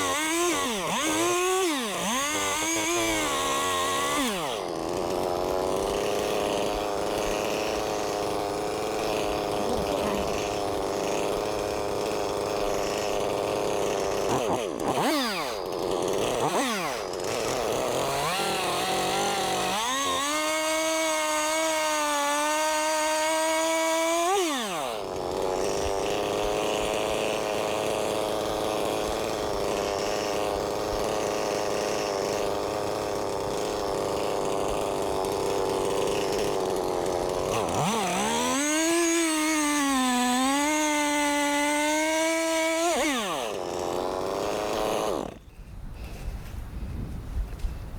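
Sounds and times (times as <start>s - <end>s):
chainsaw cutting a log: 0.0s - 46.3s.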